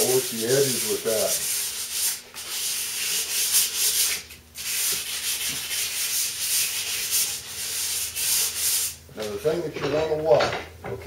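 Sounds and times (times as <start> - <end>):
hand sanding rasping strokes: 0.0 - 9.6.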